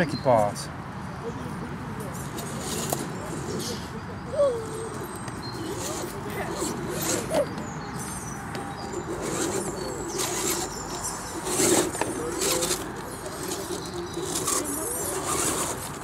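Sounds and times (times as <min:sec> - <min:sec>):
toy truck electric motor whining: 0:02.2 - 0:03.8, 0:04.6 - 0:16.0.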